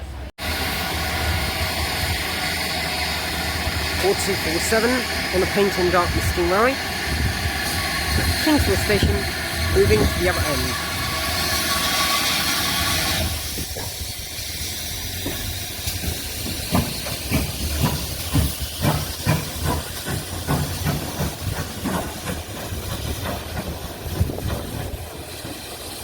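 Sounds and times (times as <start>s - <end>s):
steam locomotive chuffing: 0.0s - 26.0s
steam hissing: 0.4s - 26.0s.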